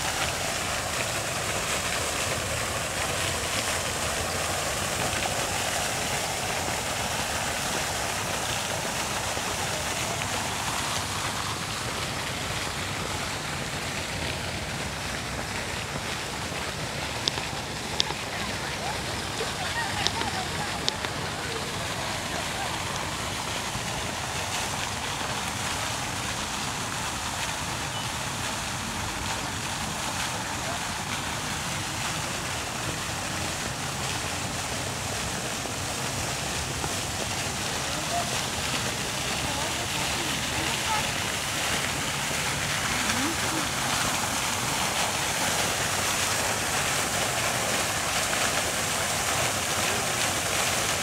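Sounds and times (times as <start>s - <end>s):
outdoor hiss: 0.0s - 51.0s
running water: 0.0s - 51.0s.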